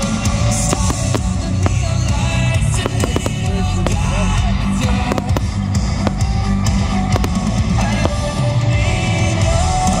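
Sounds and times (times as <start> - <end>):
fireworks cracking: 0.0 - 8.5
rock music with drums and guitar: 0.0 - 10.0.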